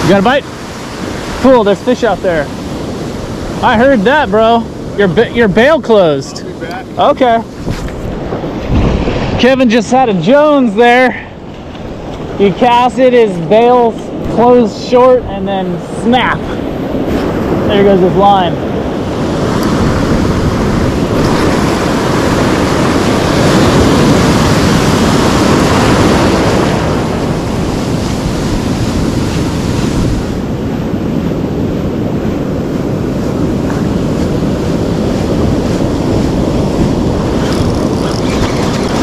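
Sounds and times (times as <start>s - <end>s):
ocean surf breaking: 0.0s - 39.0s
wind buffeting microphone: 0.0s - 39.0s.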